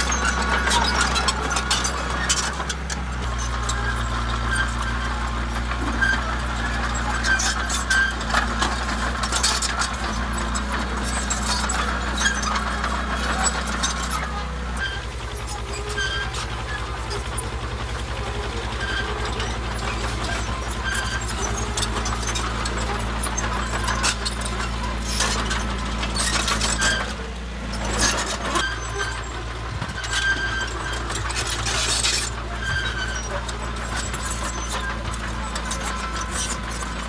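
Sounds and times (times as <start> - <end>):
bulldozer diesel engine running: 0.0 - 37.0
steel tracks clanking and squeaking: 0.0 - 37.0.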